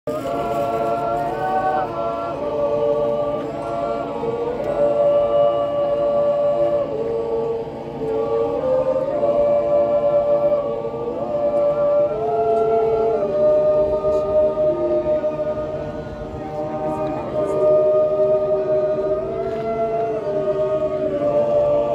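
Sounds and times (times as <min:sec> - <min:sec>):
men's choir yodeling in harmony: 0:00.1 - 0:21.9.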